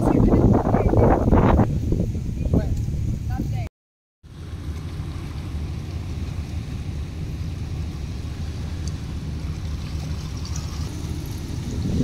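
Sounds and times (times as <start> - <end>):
ferry engine rumble: 0.0 - 12.0.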